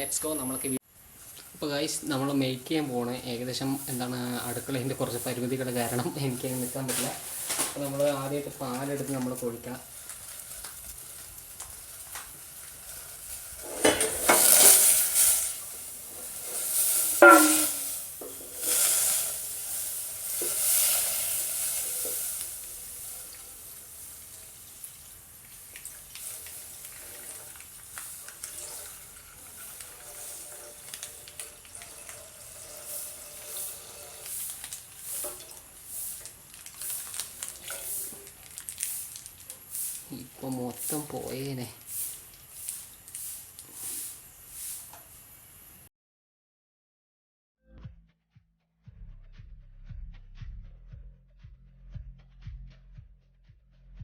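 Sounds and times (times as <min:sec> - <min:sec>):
milk hissing in hot pan: 0:00.2 - 0:45.9.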